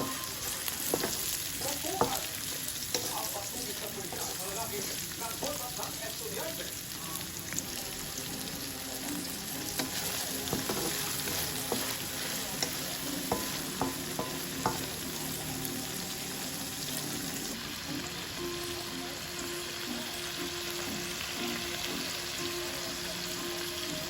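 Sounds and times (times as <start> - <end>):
food sizzling in a pan: 0.0 - 24.0.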